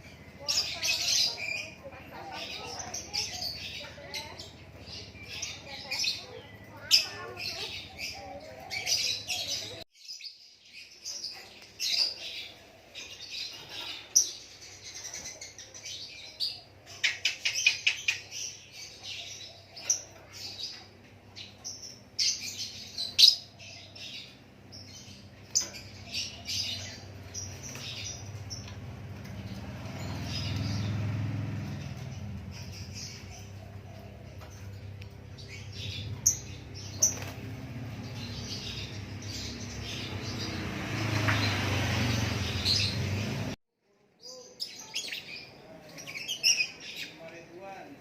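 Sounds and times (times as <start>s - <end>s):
songbird chirping and singing: 0.0s - 48.0s.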